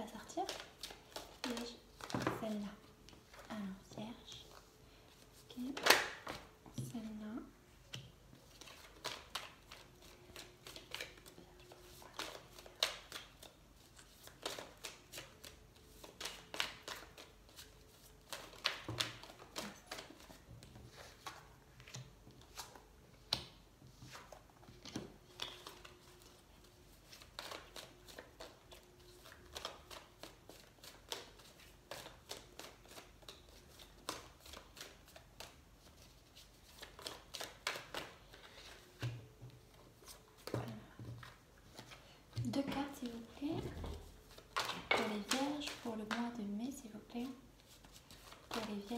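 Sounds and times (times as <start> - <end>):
cards being shuffled: 8.0 - 46.4, 47.2 - 48.9.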